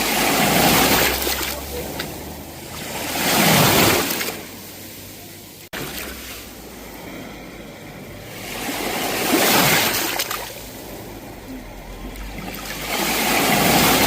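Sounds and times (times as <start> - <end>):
sea waves breaking on shore: 0.0 - 14.0.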